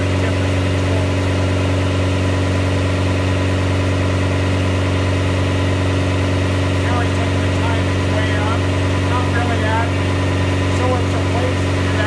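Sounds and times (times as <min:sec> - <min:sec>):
car engine running under load: 0:00.0 - 0:12.0
dynamometer running: 0:00.0 - 0:12.0.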